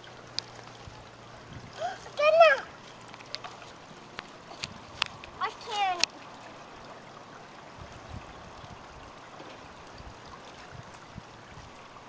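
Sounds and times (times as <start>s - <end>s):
creek water trickling: 0.0s - 12.0s.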